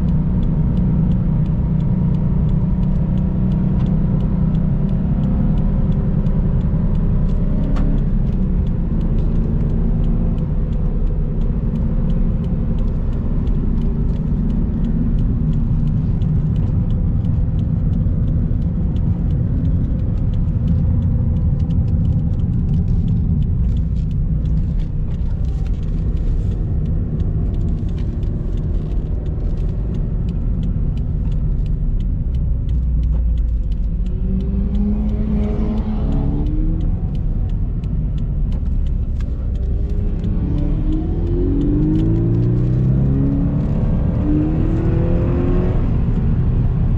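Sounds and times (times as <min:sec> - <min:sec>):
car engine running: 0:00.0 - 0:46.9
road and wind rumble: 0:00.0 - 0:46.9.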